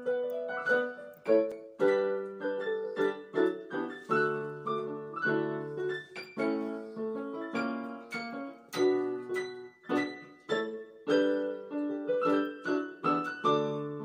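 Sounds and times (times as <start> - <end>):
electronic keyboard piano chords: 0.0 - 14.0.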